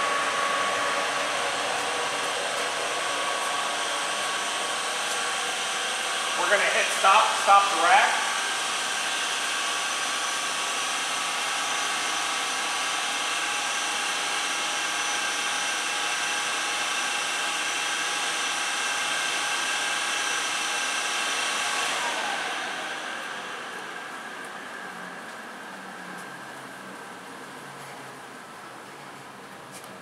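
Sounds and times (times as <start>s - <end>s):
gas oven rushing hum: 0.0s - 30.0s.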